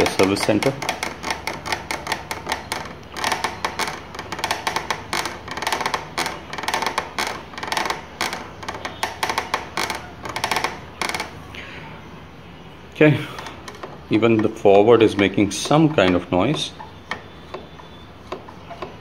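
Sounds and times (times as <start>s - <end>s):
scooter throttle grip clicking and rattling: 0.0s - 11.4s, 13.3s - 19.0s.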